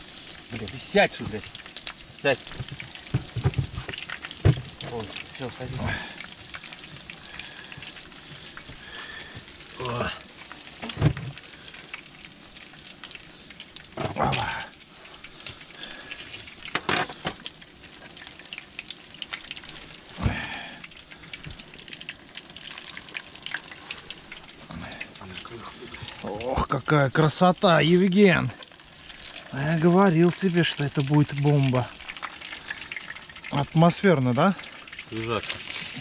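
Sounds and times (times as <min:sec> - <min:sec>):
fish sizzling in oil: 0:00.0 - 0:36.0.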